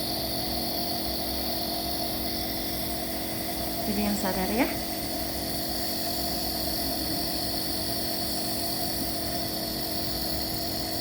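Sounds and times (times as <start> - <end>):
nebulizer humming: 0.0 - 11.0.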